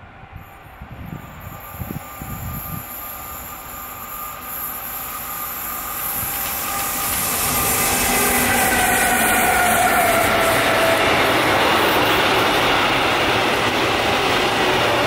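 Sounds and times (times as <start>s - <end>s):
thin locomotive whine: 0.0s - 15.0s
train rail and wheel noise: 0.0s - 15.0s.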